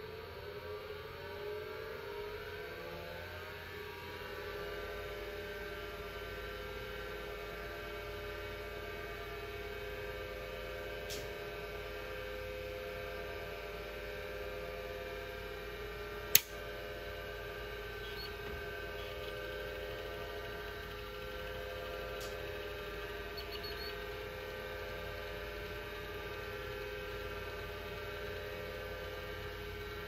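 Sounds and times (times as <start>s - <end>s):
hard disk spinning hum: 0.0s - 30.0s.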